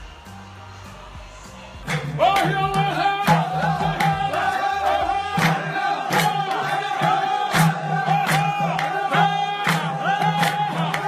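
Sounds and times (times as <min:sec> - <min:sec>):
percussion strokes: 0:00.0 - 0:11.0
voices chanting: 0:00.0 - 0:11.0.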